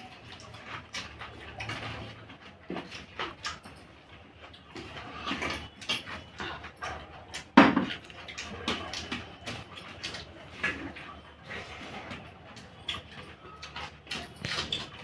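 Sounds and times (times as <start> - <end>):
people chewing and smacking: 0.0 - 15.0.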